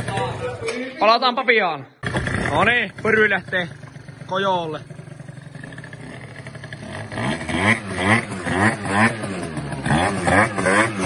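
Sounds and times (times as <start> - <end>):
scooter engine idling and revving: 0.0 - 0.7, 2.0 - 11.0.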